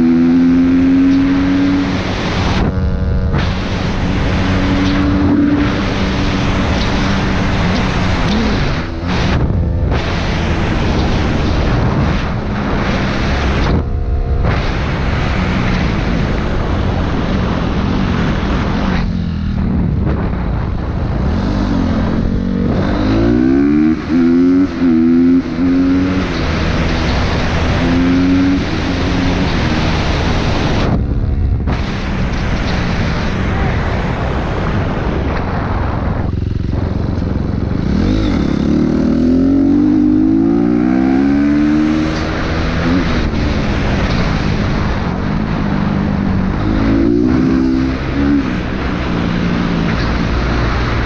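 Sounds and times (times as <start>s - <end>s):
dirt bike engines revving: 0.0s - 51.0s
wind rush: 0.0s - 51.0s.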